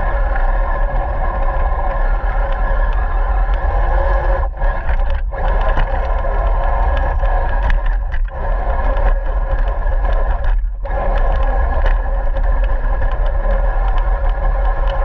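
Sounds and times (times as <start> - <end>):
low rumble: 0.0 - 15.0
wheels clicking on ground: 0.0 - 15.0.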